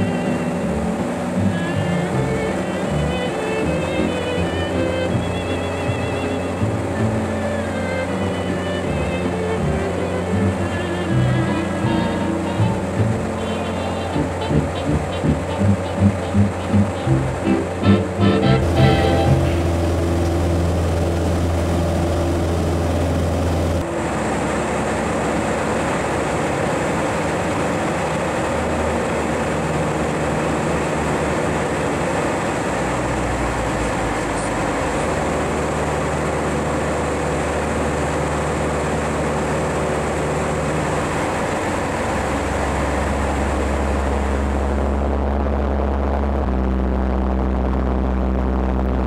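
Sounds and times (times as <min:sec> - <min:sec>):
rushing airflow: 0:00.0 - 0:45.6
light aircraft engine drone: 0:00.0 - 0:49.0.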